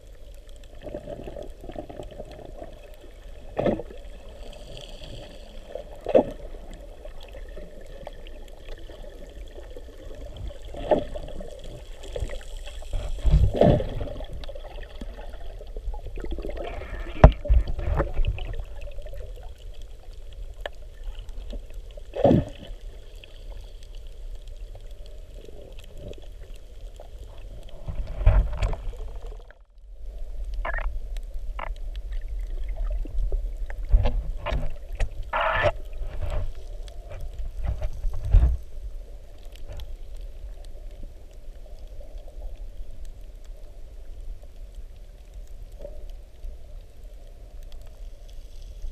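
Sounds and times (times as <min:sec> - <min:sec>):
underwater rumble of moving water: 0:00.0 - 0:48.9.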